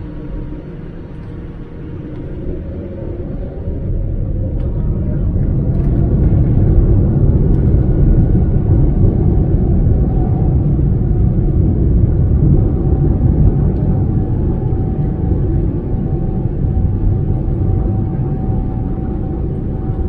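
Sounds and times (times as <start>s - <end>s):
jet engines spooling up: 0.0s - 20.0s.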